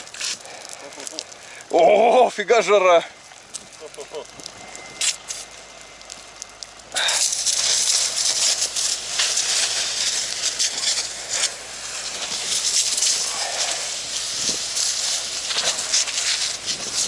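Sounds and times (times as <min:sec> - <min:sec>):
fire hose water jet hissing: 0:00.0 - 0:05.6, 0:06.5 - 0:17.0.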